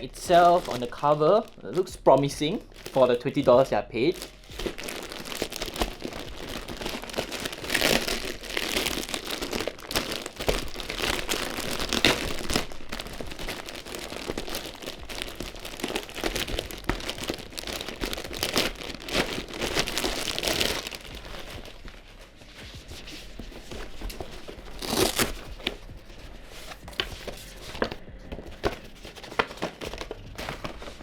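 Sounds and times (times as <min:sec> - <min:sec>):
packaging crinkling and rustling: 0:00.0 - 0:31.0.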